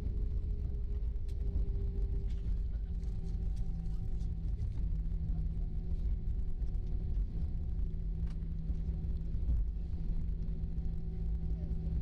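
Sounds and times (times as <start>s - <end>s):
airliner engines rumbling: 0.0s - 12.0s
constant cabin hum: 0.0s - 12.0s.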